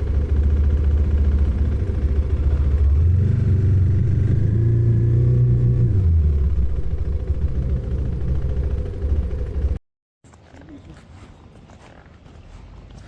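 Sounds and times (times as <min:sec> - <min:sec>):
motorcycle engine rumbling: 0:00.0 - 0:10.8.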